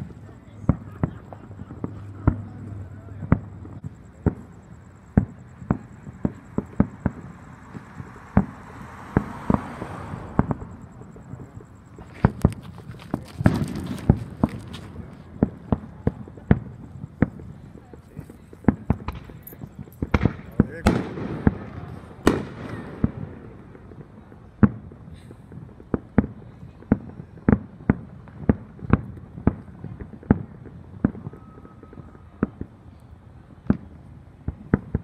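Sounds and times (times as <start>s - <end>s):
fireworks bangs and pops: 0.0s - 35.0s
fireworks crackling pops: 0.0s - 35.0s.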